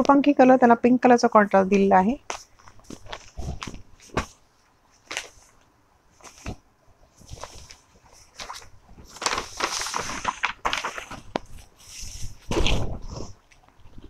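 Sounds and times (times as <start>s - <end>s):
wrapping paper crinkling: 2.3s - 14.0s.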